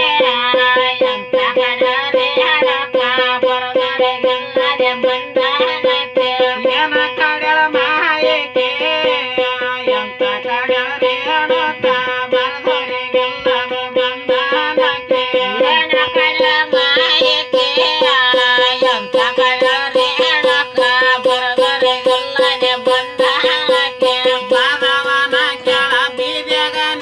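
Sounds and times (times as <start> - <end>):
voices singing devotional song: 0.0 - 27.0
plucked one-string drone: 1.0 - 27.0.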